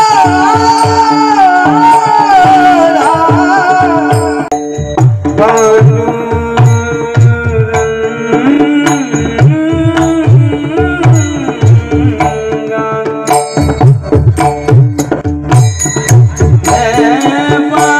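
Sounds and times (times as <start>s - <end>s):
hand drum strokes: 0.0s - 17.9s.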